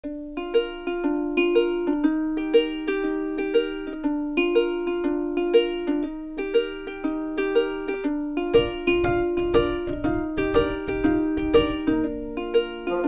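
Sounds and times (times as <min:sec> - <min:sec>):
plucked-string melody: 0:00.0 - 0:13.0.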